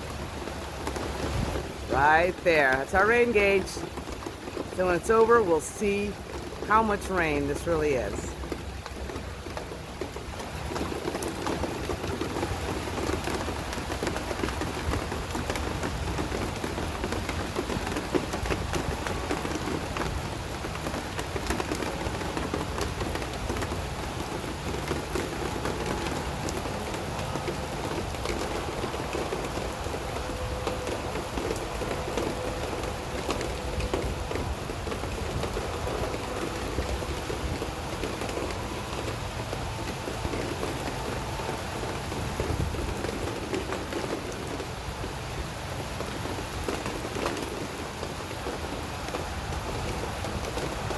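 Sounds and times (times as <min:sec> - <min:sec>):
rain falling: 0:00.0 - 0:50.9.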